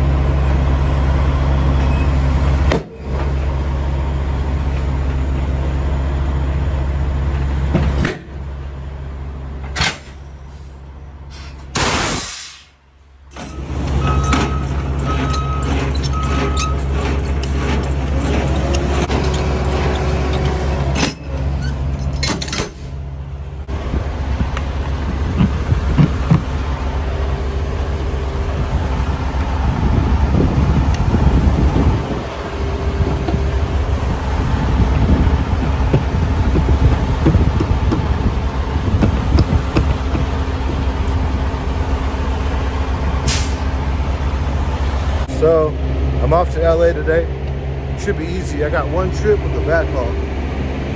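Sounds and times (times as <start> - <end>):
diesel truck idling: 0.0 - 50.9.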